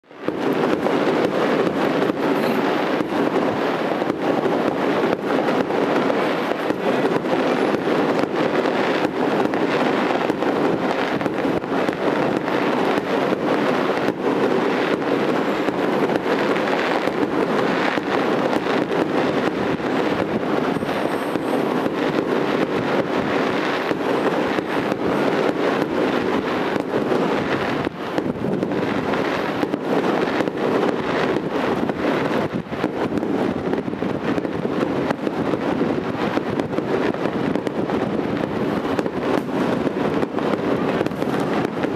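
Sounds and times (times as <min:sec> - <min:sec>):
fireworks popping and banging: 0:00.0 - 0:41.9.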